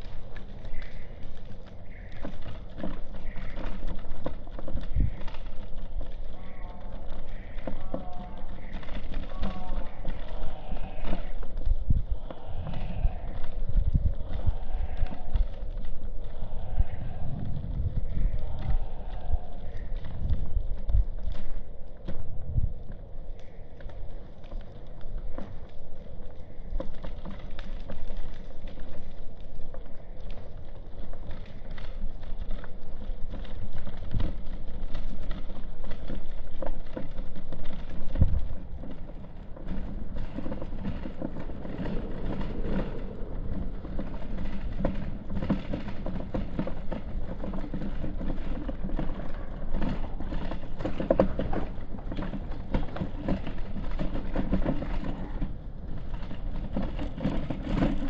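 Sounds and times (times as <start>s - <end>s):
low traffic rumble: 0.0s - 58.0s.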